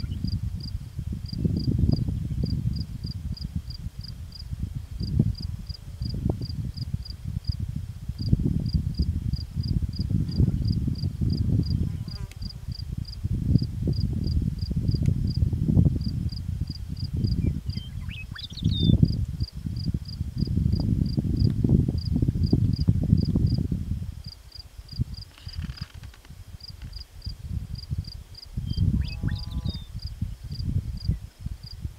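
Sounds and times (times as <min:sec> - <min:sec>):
gusty wind on microphone: 0:00.0 - 0:31.9.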